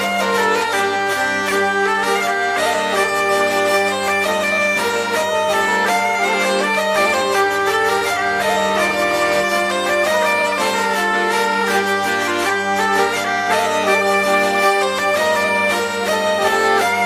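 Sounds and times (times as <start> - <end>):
bagpipes playing dance tune: 0.0 - 17.0.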